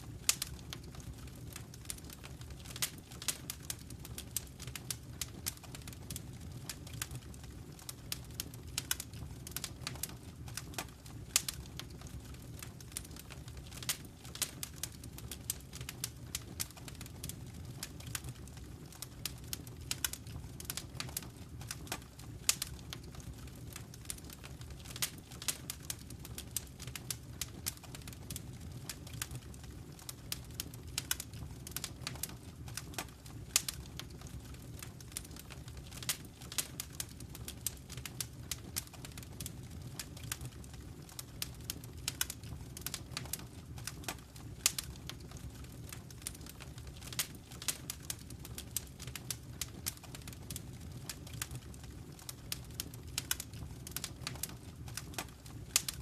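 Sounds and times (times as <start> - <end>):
low rumble of flames: 0.0 - 56.0
wood fire pops and snaps: 0.0 - 56.0.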